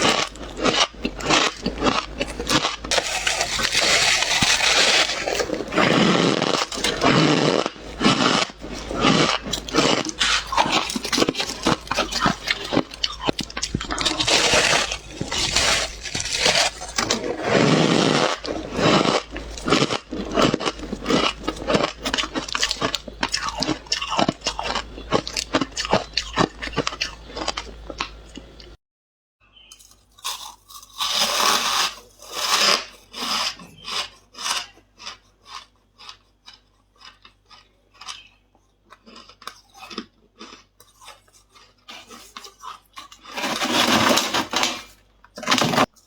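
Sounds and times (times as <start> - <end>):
ice being chewed: 0.0 - 28.8, 29.7 - 46.0.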